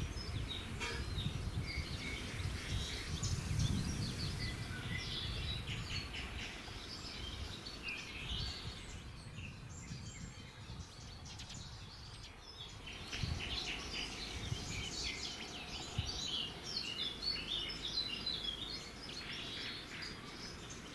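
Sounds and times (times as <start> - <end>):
low rumbling background noise: 0.0 - 20.9
songbirds chirping: 0.0 - 20.9.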